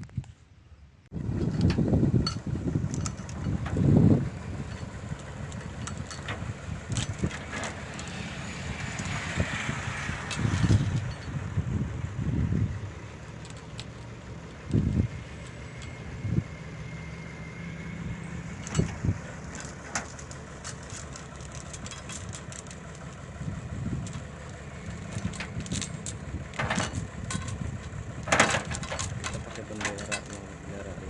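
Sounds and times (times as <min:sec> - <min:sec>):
engine idling: 0:00.8 - 0:31.0.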